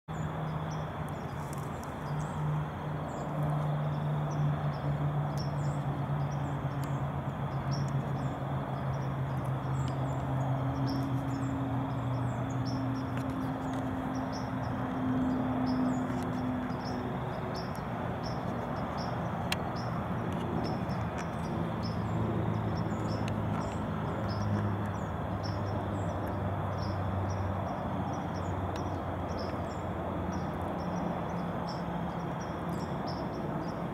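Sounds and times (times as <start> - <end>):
insects chirping: 0.1 - 33.9.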